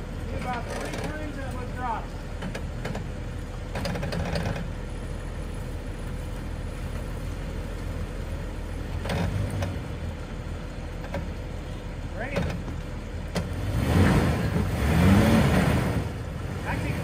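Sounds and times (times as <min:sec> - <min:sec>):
engine running at low speed: 0:00.0 - 0:17.0.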